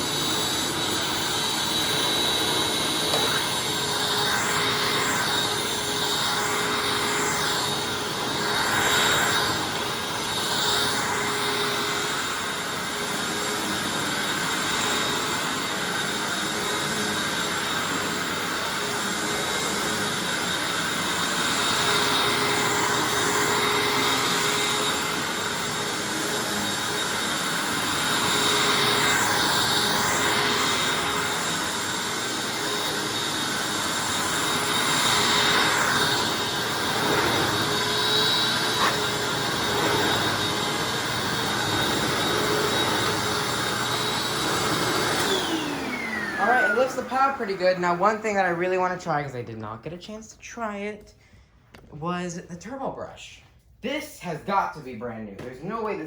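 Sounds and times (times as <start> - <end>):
upright vacuum cleaner running: 0.0 - 49.9, 55.4 - 56.0.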